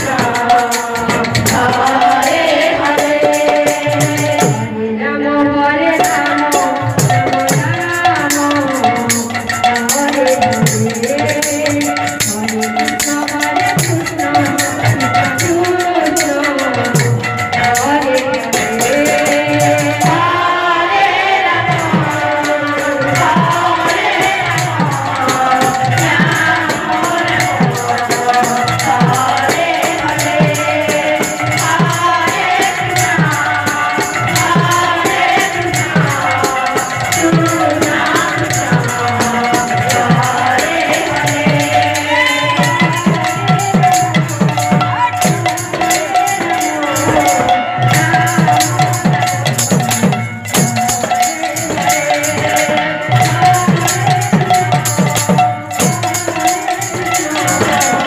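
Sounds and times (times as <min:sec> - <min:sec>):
hand drum: 0:00.0 - 0:04.8, 0:05.6 - 0:58.0
person singing: 0:00.0 - 0:58.0.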